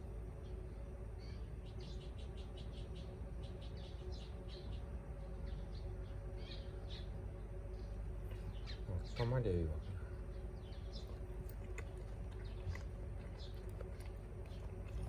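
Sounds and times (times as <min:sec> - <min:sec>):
low background rumble: 0:00.0 - 0:15.0
small birds chirping: 0:00.3 - 0:15.0.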